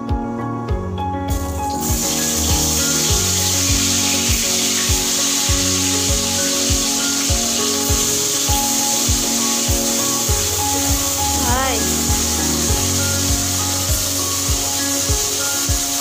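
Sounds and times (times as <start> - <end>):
background music with beat: 0.0 - 16.0
fish sizzling in hot oil: 1.3 - 16.0.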